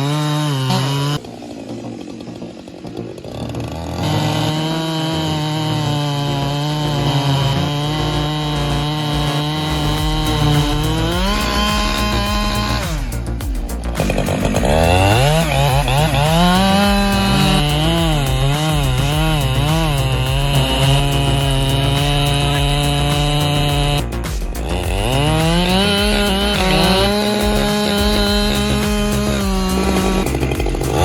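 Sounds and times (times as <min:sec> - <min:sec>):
chainsaw engine revving: 0:00.0 - 0:31.0.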